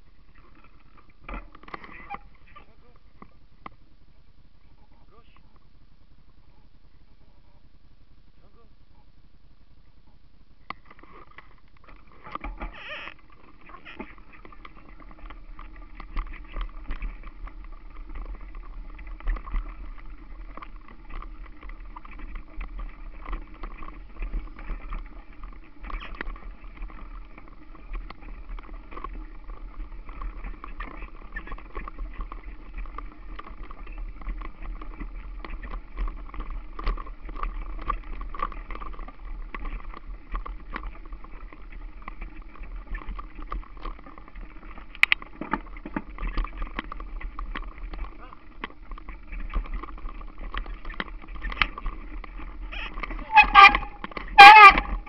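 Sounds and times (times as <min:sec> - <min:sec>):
small rattles and clicks: 0:00.0 - 0:03.8, 0:10.6 - 0:55.0
bike rolling over rough grass: 0:00.0 - 0:55.0.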